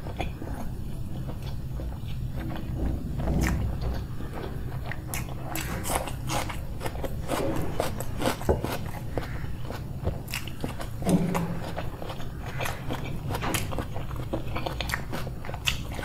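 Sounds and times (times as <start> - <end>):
chewing food: 0.0 - 16.0.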